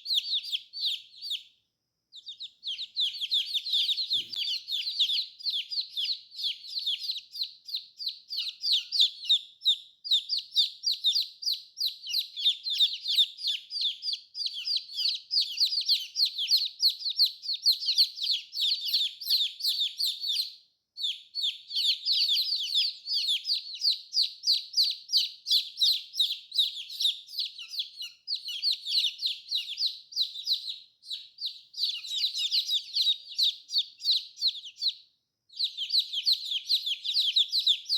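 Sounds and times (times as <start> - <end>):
baby chicks peeping: 0.0 - 37.9.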